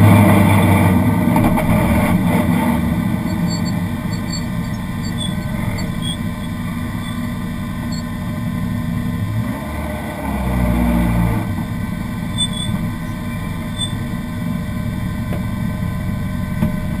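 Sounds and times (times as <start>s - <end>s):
car engine idling: 0.0s - 17.0s
deep engine rumble: 0.0s - 17.0s.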